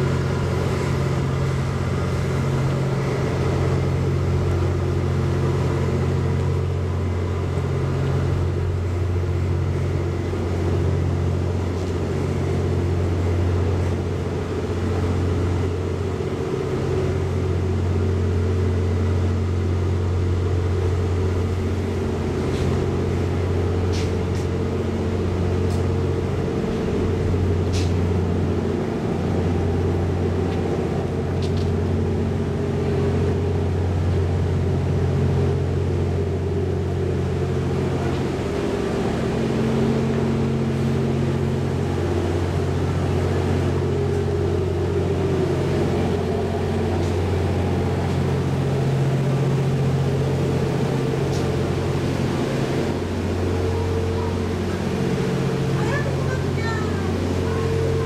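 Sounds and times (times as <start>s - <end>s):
diesel engines idling hum: 0.0s - 58.0s.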